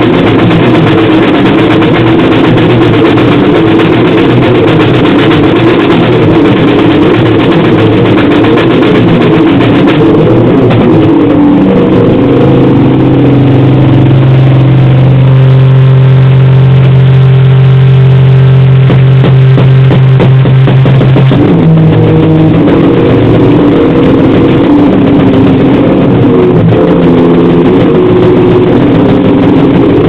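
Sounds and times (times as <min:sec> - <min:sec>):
harsh distorted noise music: 0:00.0 - 0:30.0
low distorted drone: 0:00.0 - 0:30.0.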